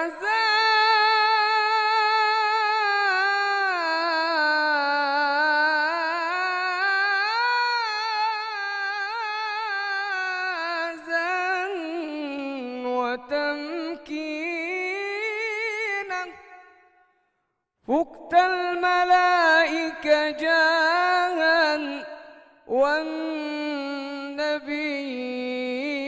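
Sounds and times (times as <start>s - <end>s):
man chanting unaccompanied: 0.0s - 16.4s, 17.9s - 26.0s.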